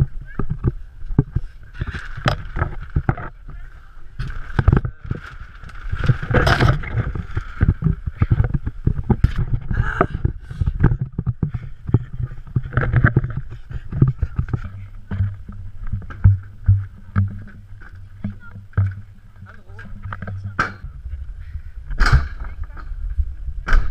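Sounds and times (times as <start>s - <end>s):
wind rumble on microphone: 0.0s - 23.9s
camera jostling thumps and knocks: 0.4s - 3.4s, 4.2s - 20.8s.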